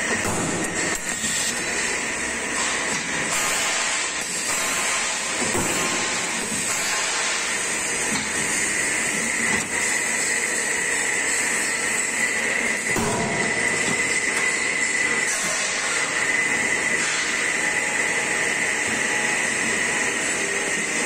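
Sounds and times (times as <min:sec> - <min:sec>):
punching machine hiss and whine: 0:00.0 - 0:21.0.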